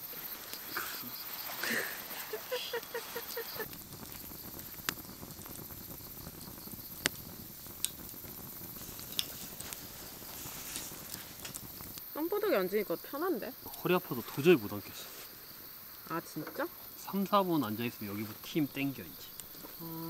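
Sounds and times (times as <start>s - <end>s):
fire popping: 0.0s - 20.0s
soft steady hiss: 0.0s - 20.0s
wood fire crackling: 0.0s - 20.0s.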